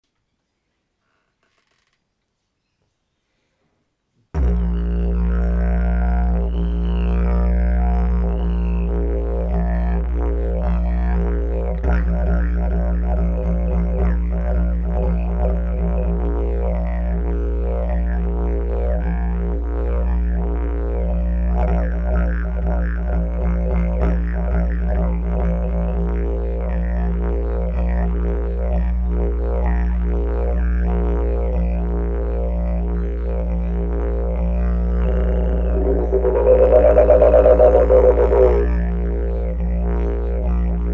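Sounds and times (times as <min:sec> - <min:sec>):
didgeridoo drone: 0:04.4 - 0:40.9.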